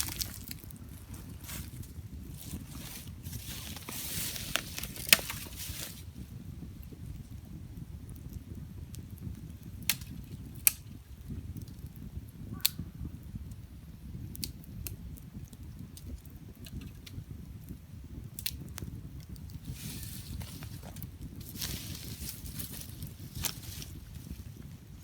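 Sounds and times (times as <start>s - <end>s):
campfire crackling: 0.0s - 25.0s
low steady fire rumble: 0.0s - 25.0s
sharp pops of fire: 4.5s - 24.8s.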